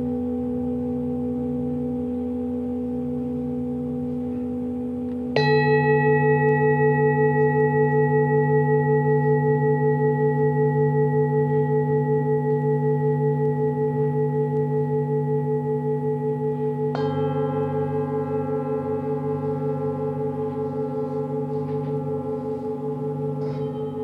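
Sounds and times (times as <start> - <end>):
low steady drone: 0.0 - 24.0
metal singing bowls ringing: 0.0 - 24.0
singing bowl struck: 0.0 - 24.0.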